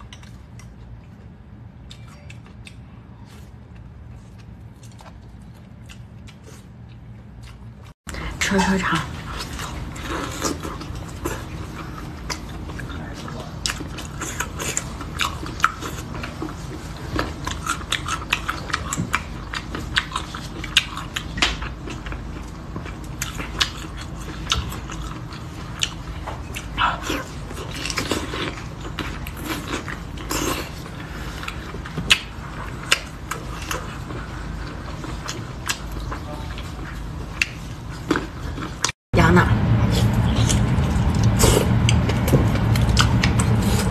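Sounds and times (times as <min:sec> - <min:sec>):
wet chewing and biting: 0:00.0 - 0:08.0, 0:09.0 - 0:39.0, 0:39.8 - 0:43.9
low steady hum: 0:00.0 - 0:43.9.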